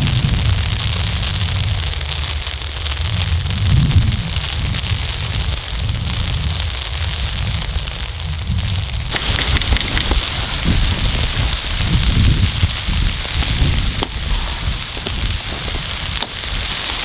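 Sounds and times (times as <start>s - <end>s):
falling snow hissing and pattering: 0.7s - 17.0s.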